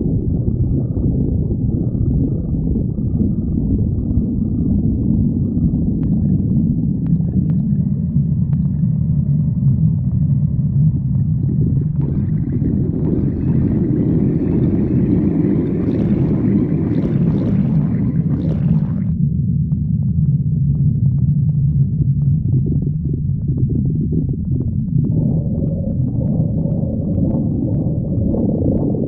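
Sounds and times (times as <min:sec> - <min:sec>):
bubbly stomach gurgling: 0:00.0 - 0:19.3, 0:20.0 - 0:29.0
stomach rumbling: 0:00.0 - 0:29.0.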